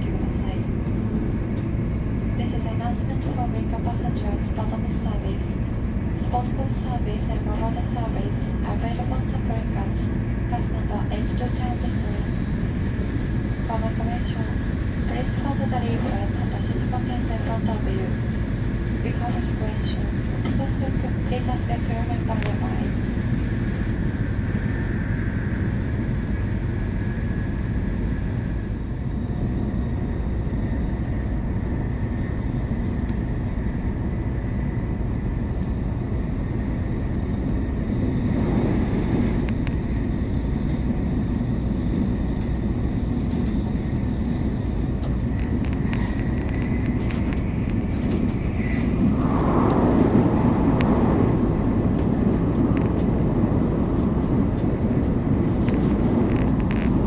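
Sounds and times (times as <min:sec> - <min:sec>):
train rumble inside cabin: 0:00.0 - 0:57.0.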